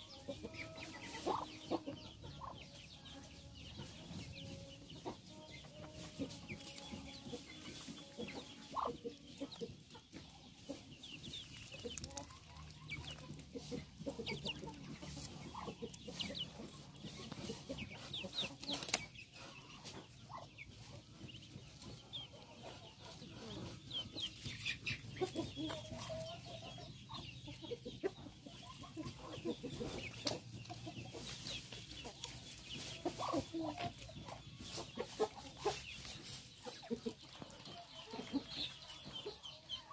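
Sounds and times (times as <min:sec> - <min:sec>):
chickens clucking: 0:00.0 - 0:39.9
ducklings peeping: 0:00.0 - 0:39.9.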